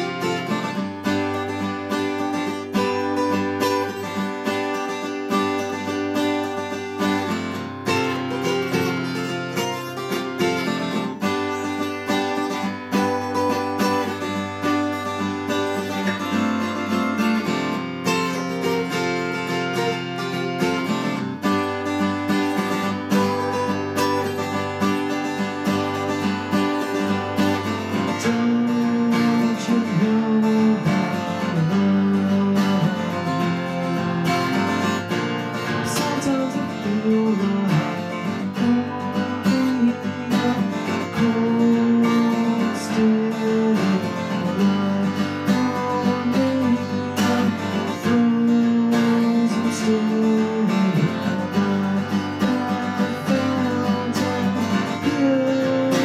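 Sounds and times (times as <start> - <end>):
acoustic guitar strumming chords: 0.0 - 56.0.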